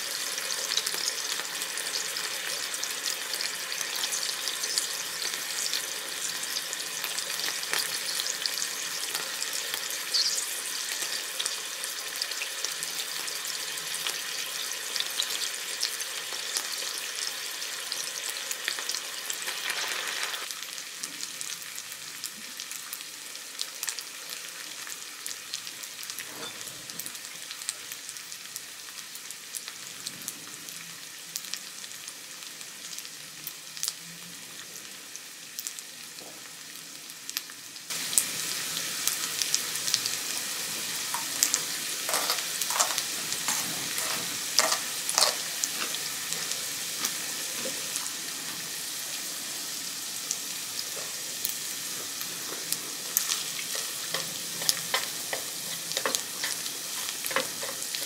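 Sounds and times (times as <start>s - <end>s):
meat sizzling on hot plate: 0.0s - 58.0s.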